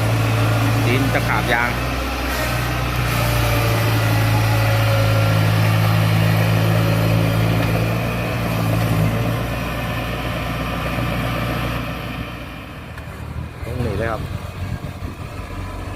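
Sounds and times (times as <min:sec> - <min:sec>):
combine harvester diesel engine running: 0:00.0 - 0:15.9.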